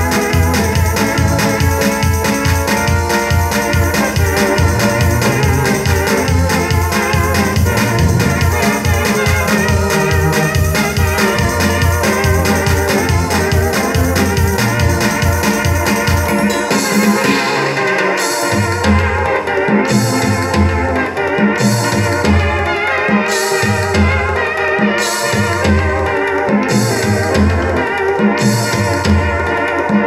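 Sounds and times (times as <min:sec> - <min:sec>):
pulsing bass line: 0:00.0 - 0:22.6, 0:26.6 - 0:29.4
electronic keyboard chords: 0:00.0 - 0:30.0.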